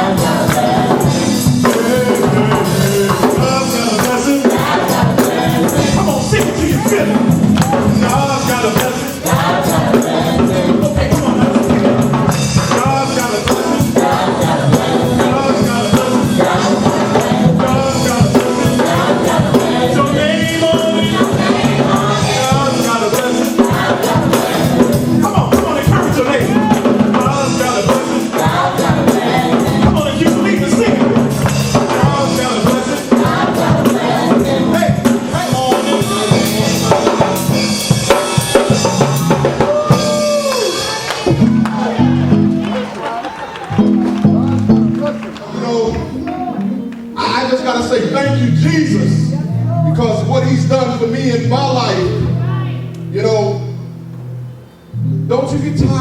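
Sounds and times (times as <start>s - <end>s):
bass line: 0.0s - 42.9s, 43.7s - 56.0s.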